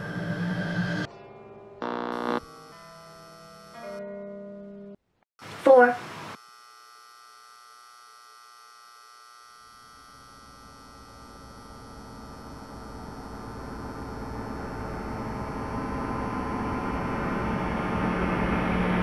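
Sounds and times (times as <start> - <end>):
humming drone of held tones: 1.8 - 5.0, 6.4 - 19.0.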